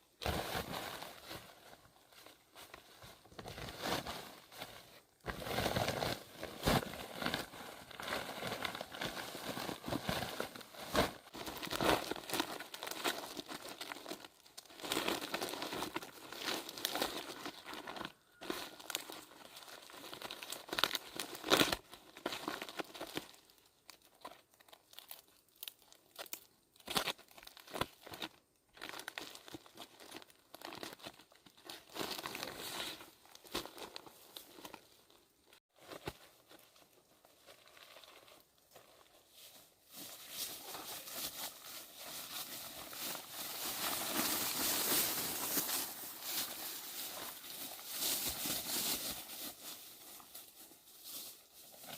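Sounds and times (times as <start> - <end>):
material crinkling and rustling: 0.1 - 51.9.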